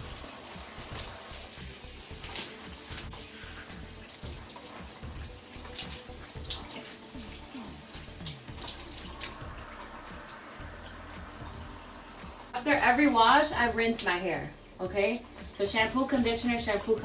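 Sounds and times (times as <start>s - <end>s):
shower head spraying water: 0.0s - 17.0s
water splashes: 0.0s - 17.0s.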